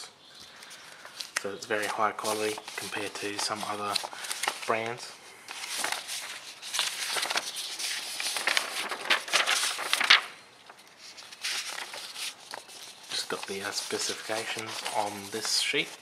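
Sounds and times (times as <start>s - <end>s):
paper pages rustling: 0.5s - 16.0s.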